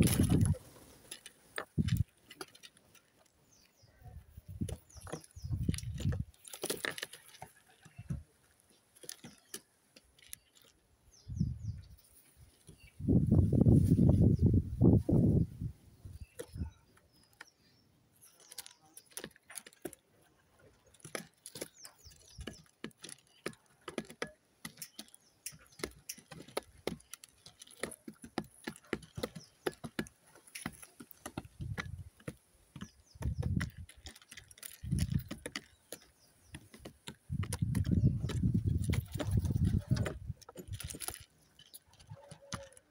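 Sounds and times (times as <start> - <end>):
pigeons pecking on hard ground: 0.0 - 14.4, 15.2 - 42.9.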